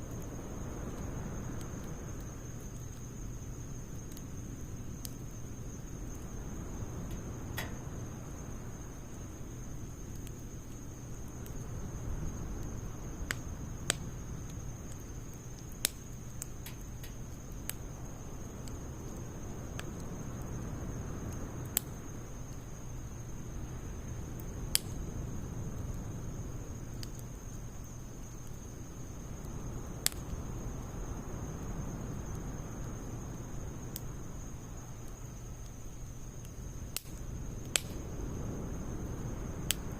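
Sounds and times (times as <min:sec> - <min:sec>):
low rush of fire: 0:00.0 - 0:39.9
wood fire crackling: 0:00.0 - 0:39.9.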